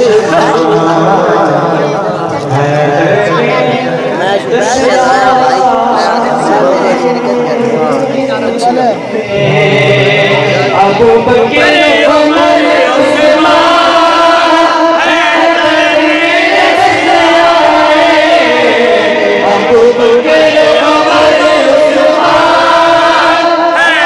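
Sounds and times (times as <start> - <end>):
man's voice over loudspeaker: 0.0 - 14.0, 16.8 - 22.4
crowd chanting in unison: 0.0 - 24.0.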